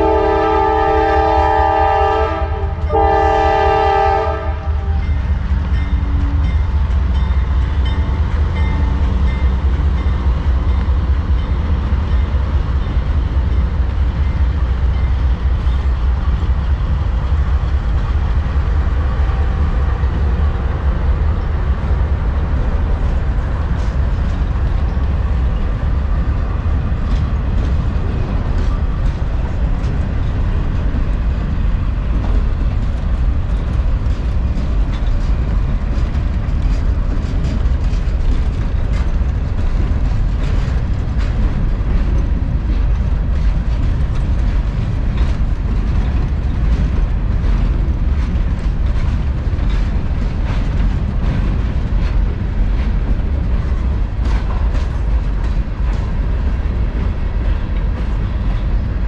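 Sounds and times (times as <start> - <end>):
train wheels rumbling on rail: 0.0 - 59.0
wheels clicking over rail joints: 4.6 - 59.0.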